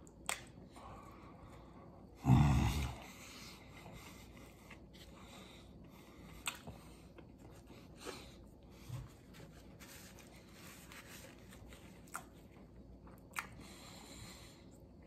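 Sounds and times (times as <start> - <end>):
faint chewing: 2.7 - 15.0.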